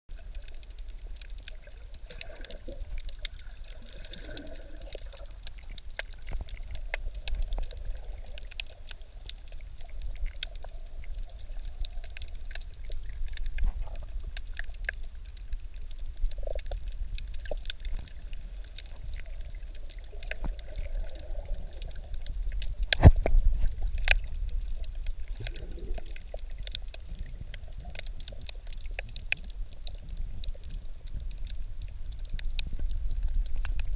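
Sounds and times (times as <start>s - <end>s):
sharp clicks and crackles: 0.1s - 33.9s
underwater rumble of moving water: 0.1s - 33.9s
water gurgles: 0.1s - 33.9s.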